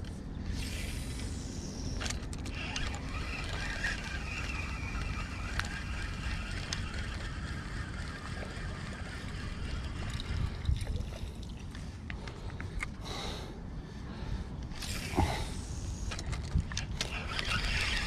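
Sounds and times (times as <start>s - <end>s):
fishing reel whirring: 0.4s - 11.8s, 14.7s - 18.0s.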